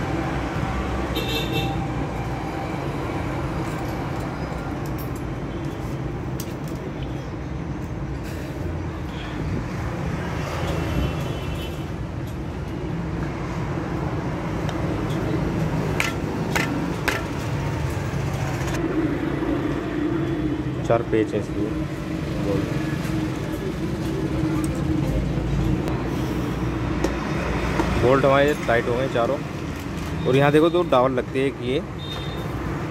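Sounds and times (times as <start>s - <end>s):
road traffic: 0.0s - 32.9s.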